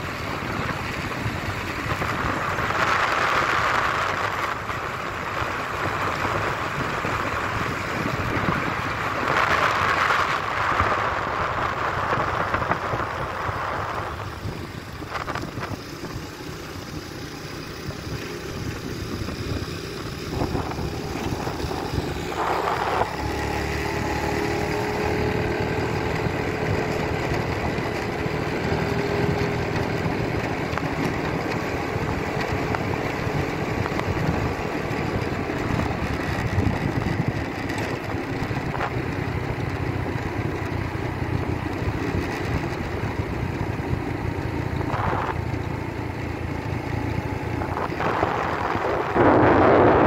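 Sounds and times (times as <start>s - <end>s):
motorbike engine: 0.0s - 50.0s
wind and tyre rush: 0.0s - 50.0s.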